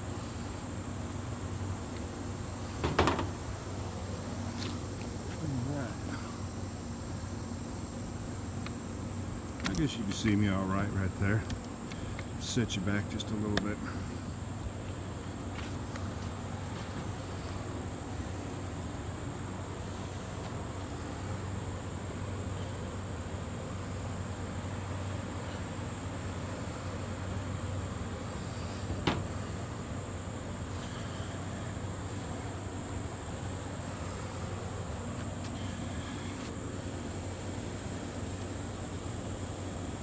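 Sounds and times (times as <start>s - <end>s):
insect buzzing drone: 0.0s - 40.0s.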